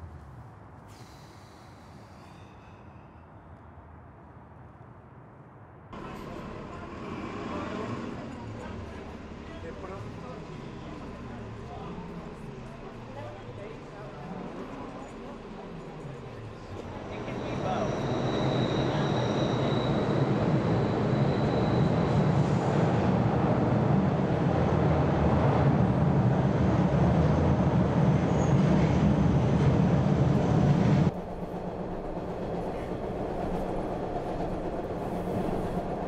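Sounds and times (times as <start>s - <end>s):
rumble inside moving subway car: 0.0s - 36.0s
subway train rumbling: 0.0s - 36.0s.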